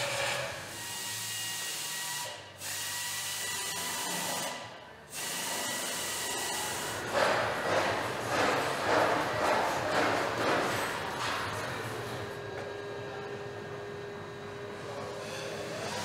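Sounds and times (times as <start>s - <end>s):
power tool running: 0.0s - 16.0s.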